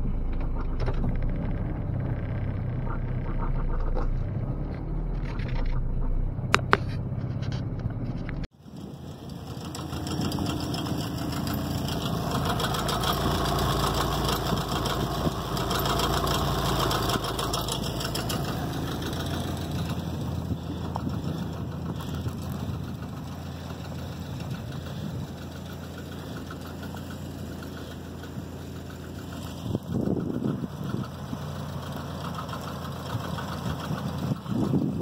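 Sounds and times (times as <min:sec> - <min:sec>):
car engine running: 0:00.0 - 0:35.0.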